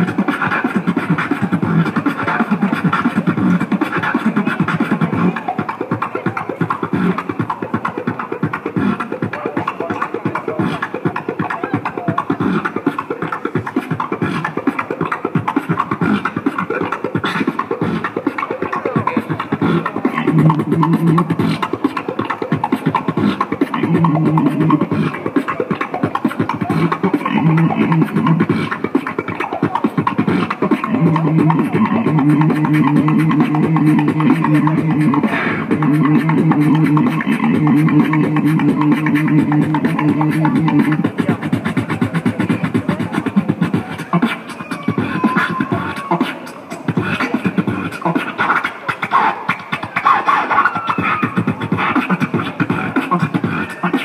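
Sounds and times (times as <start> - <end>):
beatboxing into a microphone: 0.0 - 54.0.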